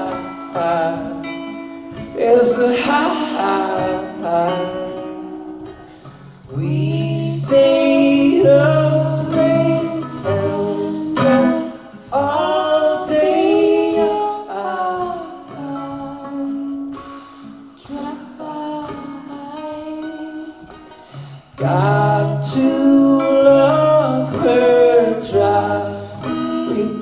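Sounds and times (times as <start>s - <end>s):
acoustic guitar strumming: 0.0s - 27.0s
person singing: 0.0s - 27.0s.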